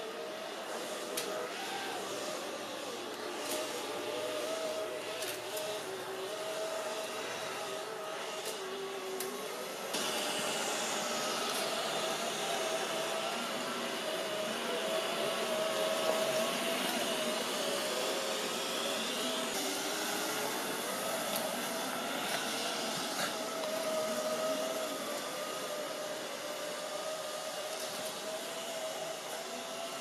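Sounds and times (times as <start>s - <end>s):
robot vacuum whirring: 0.0s - 30.0s.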